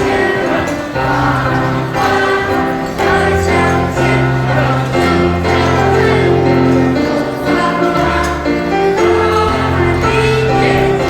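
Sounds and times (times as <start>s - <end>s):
group singing a hymn: 0.0s - 11.0s
held accompaniment chords: 0.0s - 11.0s.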